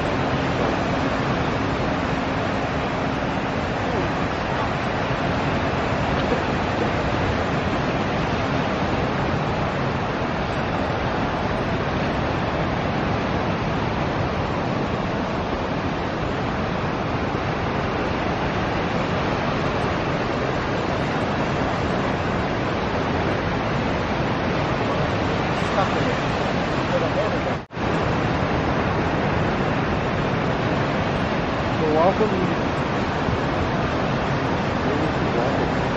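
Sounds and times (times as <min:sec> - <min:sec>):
surf breaking on rocky shore: 0:00.0 - 0:35.9.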